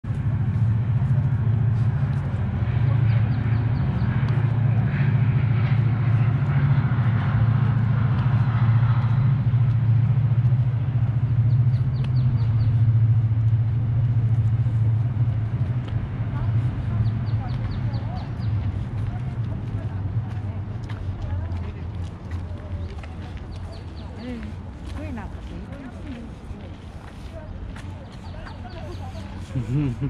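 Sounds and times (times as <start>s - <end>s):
low rumble: 0.1s - 24.8s.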